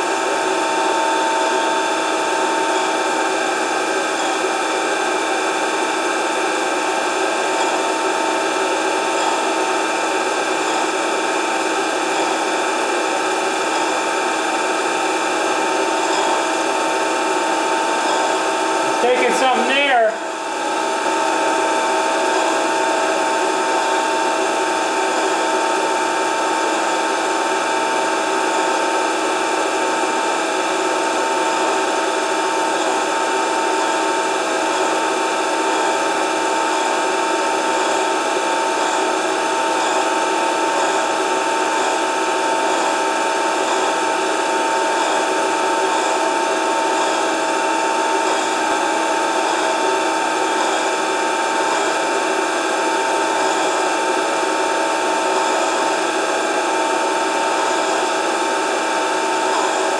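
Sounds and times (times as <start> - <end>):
grinding machine whine: 0.0 - 59.9.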